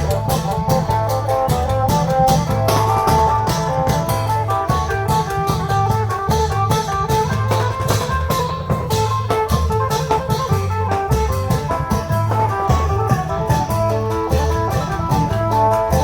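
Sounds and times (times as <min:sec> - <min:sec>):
deep drums beating: 0:00.0 - 0:16.0
plucked string melody: 0:00.0 - 0:16.0.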